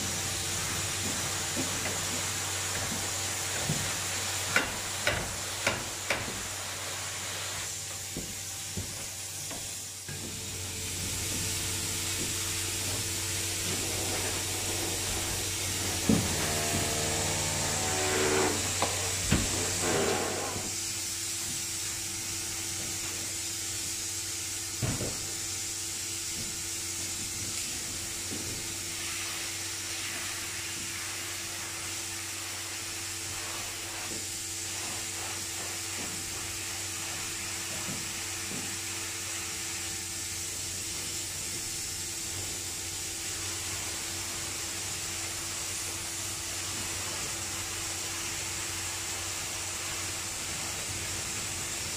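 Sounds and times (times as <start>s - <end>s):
spray foam gun hissing: 0.0s - 51.9s.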